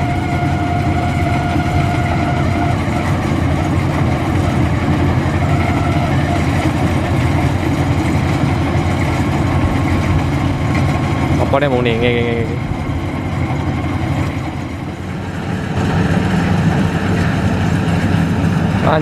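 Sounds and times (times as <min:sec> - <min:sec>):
combine harvester engine running: 0:00.0 - 0:19.0
faint steady whine: 0:00.0 - 0:19.0.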